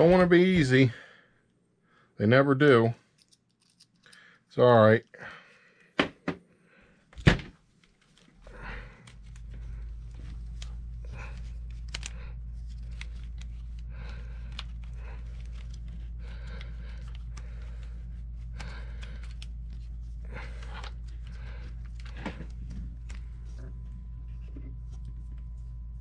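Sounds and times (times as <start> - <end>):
steady low hum: 0.0 - 5.8, 6.5 - 26.0.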